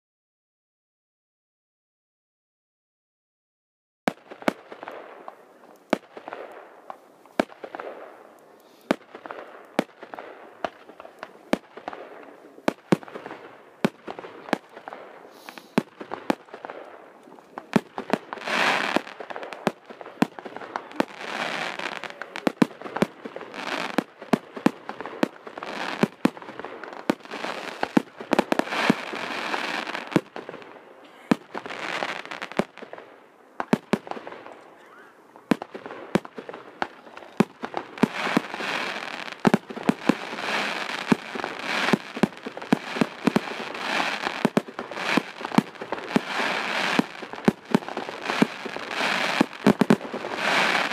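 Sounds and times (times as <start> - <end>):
firework crackling hiss: 4.1 - 34.5, 35.4 - 50.9
firework bangs: 4.1 - 50.9.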